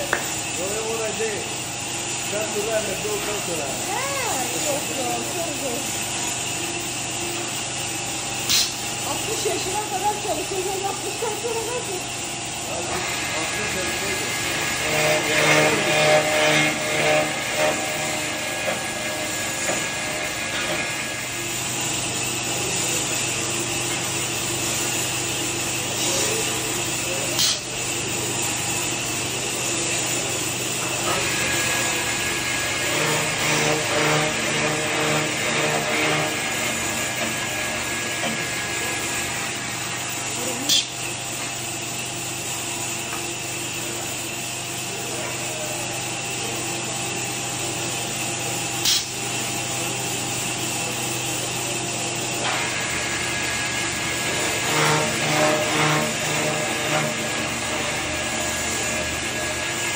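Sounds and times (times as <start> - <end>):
sanding machine running: 0.0 - 59.9.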